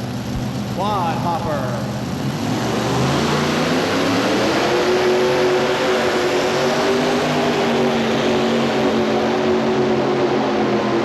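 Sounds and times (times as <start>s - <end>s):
tractor engine at full power: 0.0s - 11.0s.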